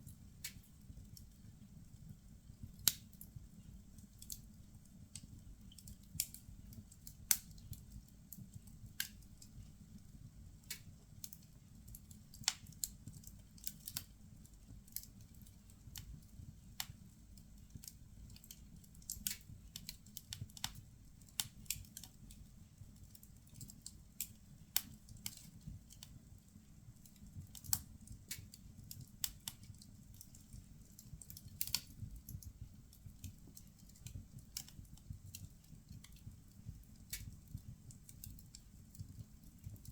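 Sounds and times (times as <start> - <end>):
firewood crackling and popping: 0.0 - 39.9
low fire rumble: 0.0 - 39.9.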